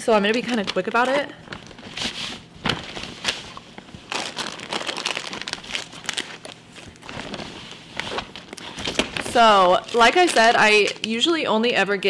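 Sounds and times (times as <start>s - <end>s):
shopping bag crinkling: 0.4s - 11.2s.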